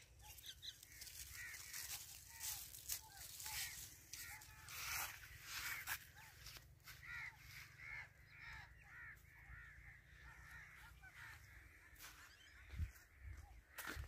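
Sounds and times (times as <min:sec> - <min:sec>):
crows cawing: 0:00.2 - 0:14.0.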